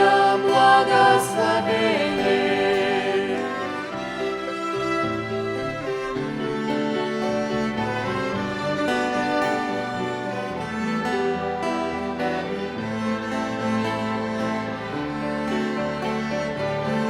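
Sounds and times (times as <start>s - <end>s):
violin ensemble playing: 0.0s - 17.0s.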